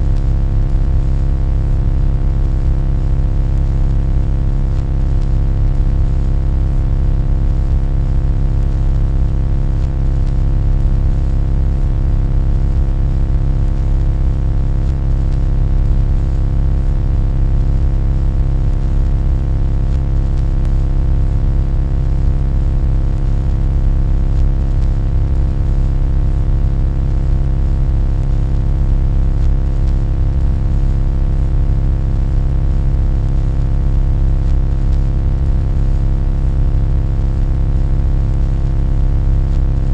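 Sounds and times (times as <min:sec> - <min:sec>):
low-pitched buzzing drone: 0:00.0 - 0:39.9.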